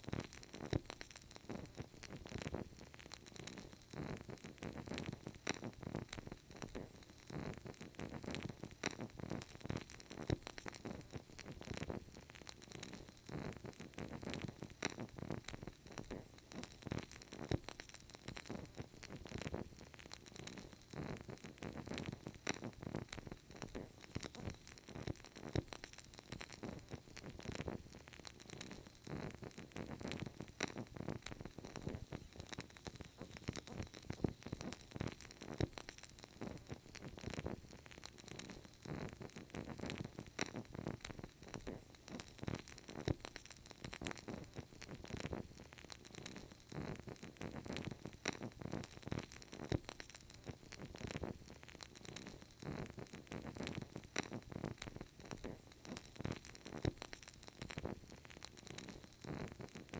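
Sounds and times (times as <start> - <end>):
candle crackling: 0.0 - 59.9.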